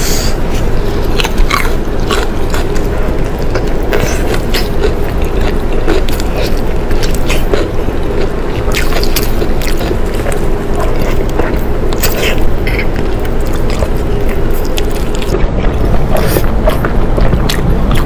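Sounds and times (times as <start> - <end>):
chewing and lip-smacking: 0.5 - 18.0.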